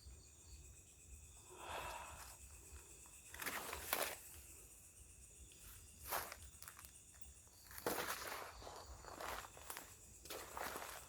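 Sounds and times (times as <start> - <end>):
faint insect trilling: 0.0 - 11.0.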